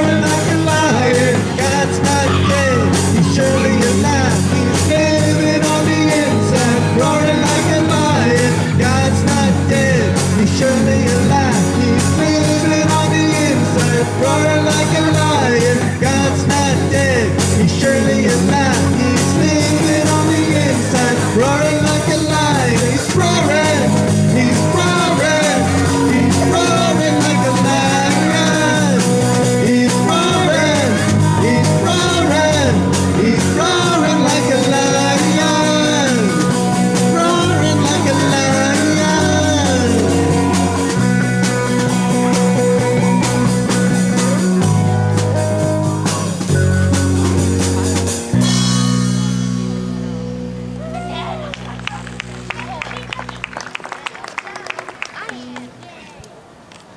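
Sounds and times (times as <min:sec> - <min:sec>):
live rock band playing: 0:00.0 - 0:54.6.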